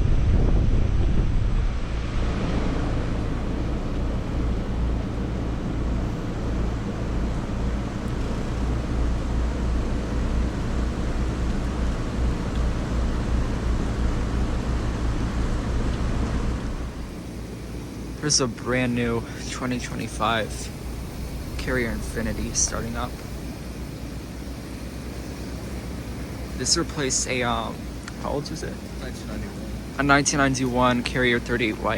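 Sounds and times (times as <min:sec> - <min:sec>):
compressor hum: 0:00.0 - 0:31.9
fan whoosh: 0:00.0 - 0:31.9.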